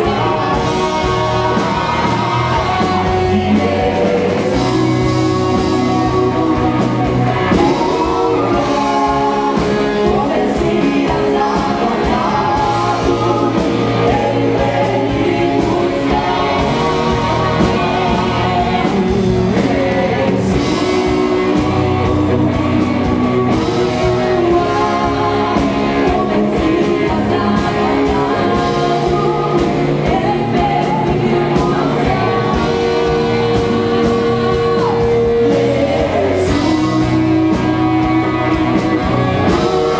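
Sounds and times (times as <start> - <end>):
guitar: 0.0 - 39.9
rock band with singing: 0.0 - 39.9.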